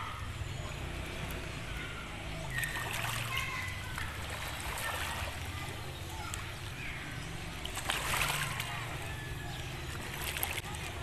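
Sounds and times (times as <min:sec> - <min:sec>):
faint distant voices calling: 0:00.0 - 0:11.0
water lapping and splashing: 0:00.7 - 0:11.0.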